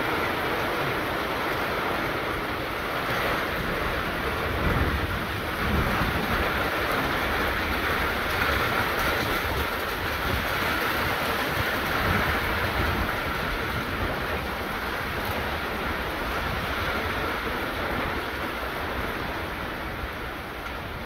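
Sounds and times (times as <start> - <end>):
light rain on dirt: 0.0 - 21.0
wind buffeting microphone: 0.0 - 21.0.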